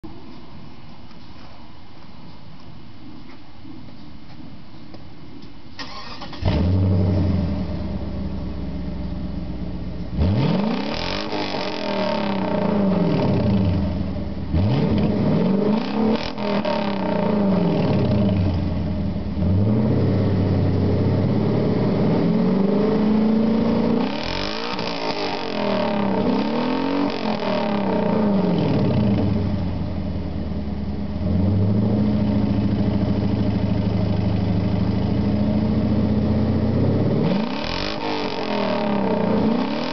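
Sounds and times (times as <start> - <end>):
raspy car engine idling and revving: 5.8 - 39.9.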